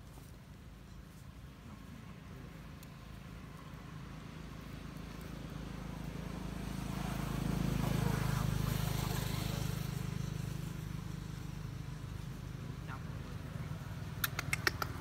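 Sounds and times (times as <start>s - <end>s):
motor vehicle engine hum: 0.0s - 15.0s.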